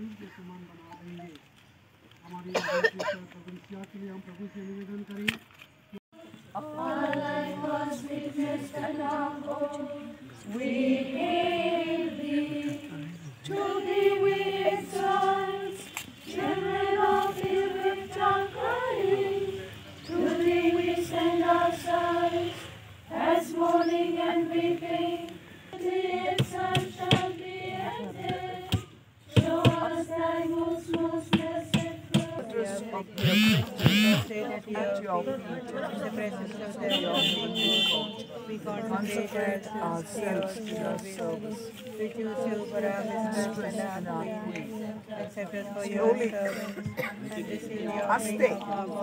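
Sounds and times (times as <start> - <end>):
group singing a slow hymn: 6.2 - 49.0.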